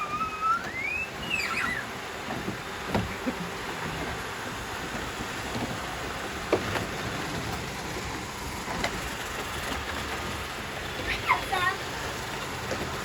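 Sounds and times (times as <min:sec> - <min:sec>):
robot vacuums whirring: 0:00.0 - 0:13.0.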